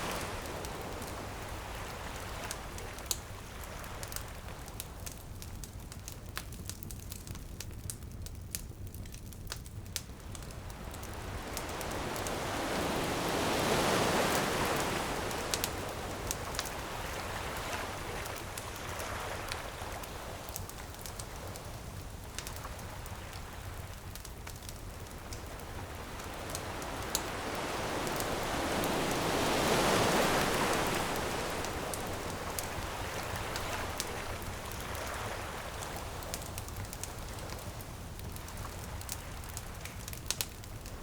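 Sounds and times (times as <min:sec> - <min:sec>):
ocean waves washing onto beach: 0:00.0 - 0:05.5, 0:10.1 - 0:41.0
bonfire crackling and popping: 0:00.0 - 0:41.0.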